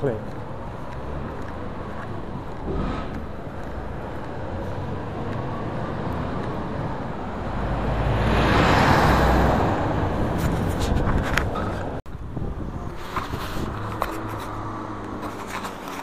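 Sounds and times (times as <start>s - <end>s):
street traffic: 0.0s - 16.0s
vehicle passing close by: 0.6s - 12.0s, 12.6s - 15.8s.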